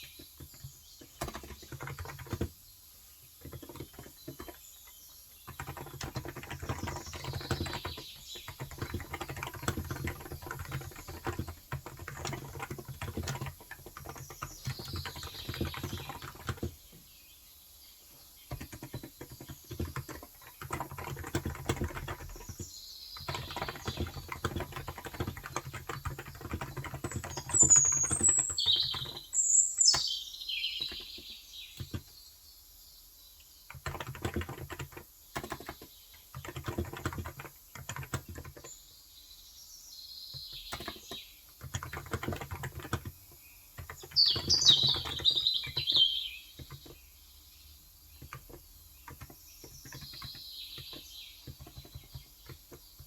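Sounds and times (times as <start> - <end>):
rapid keyboard typing: 0.0 - 17.1, 18.4 - 32.2, 33.6 - 39.0, 40.3 - 47.2, 47.8 - 53.0
bird chirping: 0.0 - 53.0.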